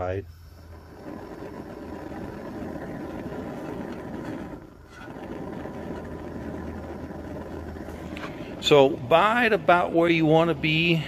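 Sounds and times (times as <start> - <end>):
gas burner flame rushing: 0.0 - 11.0
low hum: 0.0 - 11.0.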